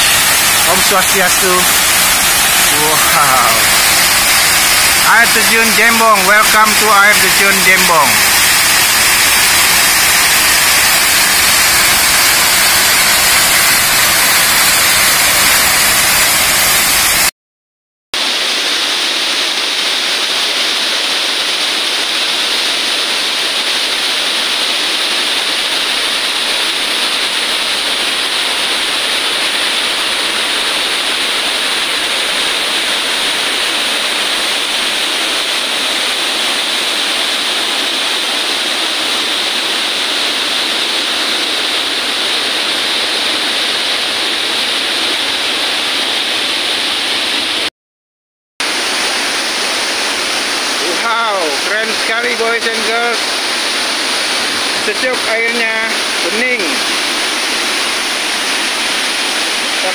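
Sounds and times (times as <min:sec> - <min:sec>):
waterfall pouring over rocks: 0:00.0 - 0:17.3, 0:18.2 - 0:47.7, 0:48.6 - 0:59.9.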